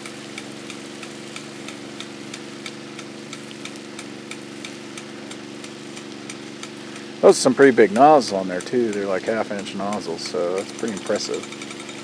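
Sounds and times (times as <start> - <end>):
light ticking: 0.0 - 12.0
water pump engine running: 0.0 - 12.0.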